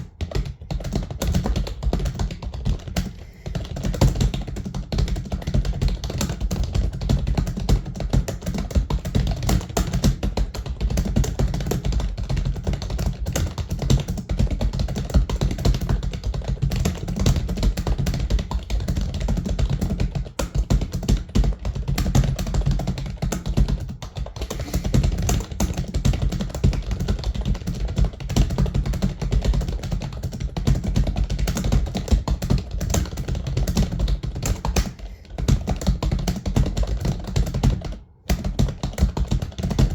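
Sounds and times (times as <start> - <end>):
keyboard typing clatter: 0.0 - 39.9.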